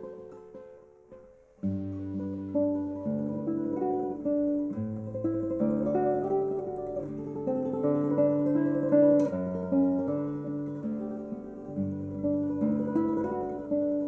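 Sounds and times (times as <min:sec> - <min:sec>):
classical guitar fingerstyle: 0:00.0 - 0:14.0.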